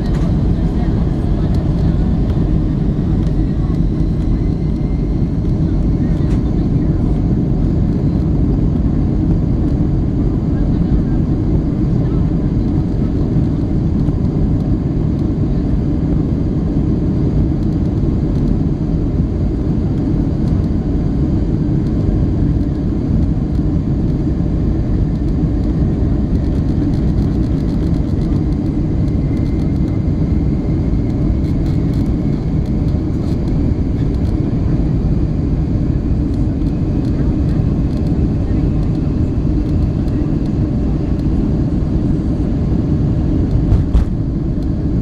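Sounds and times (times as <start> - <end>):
jet engine rumble and airflow: 0.0 - 45.0.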